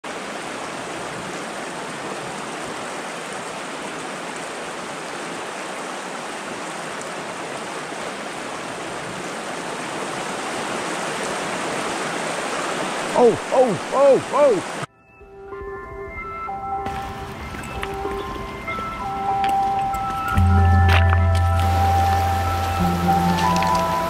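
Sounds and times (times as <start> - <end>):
creek water rushing: 0.0 - 14.9, 16.9 - 24.0.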